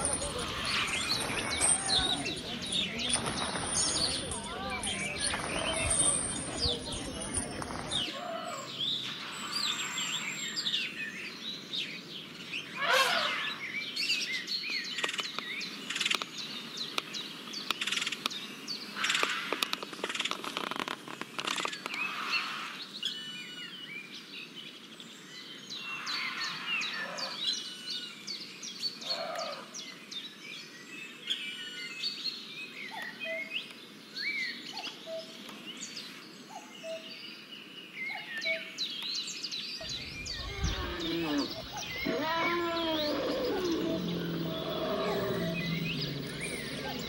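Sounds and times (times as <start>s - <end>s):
birds chirping and calling: 0.0s - 47.0s.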